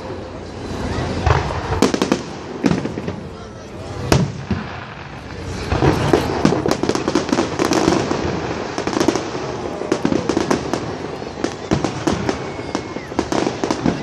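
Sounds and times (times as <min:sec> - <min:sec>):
firework bang: 0:01.1 - 0:14.0
crackling firework pops: 0:01.2 - 0:03.3, 0:04.1 - 0:14.0.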